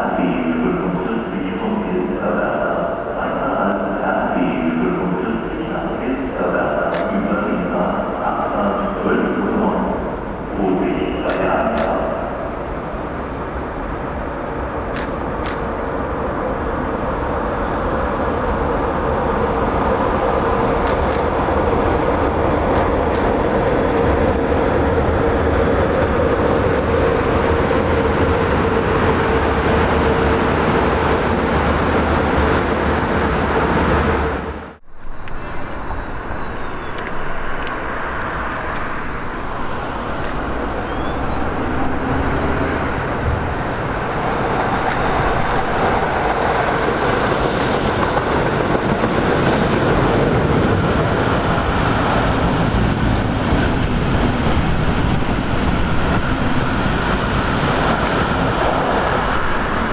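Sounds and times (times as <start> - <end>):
electric locomotive humming: 0.0 - 59.9
passenger train rumbling past: 0.0 - 59.9
rail noise: 0.0 - 59.9.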